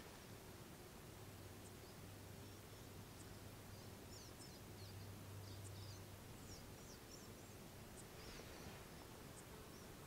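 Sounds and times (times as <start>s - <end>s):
faint bird chirp: 1.6s - 10.0s.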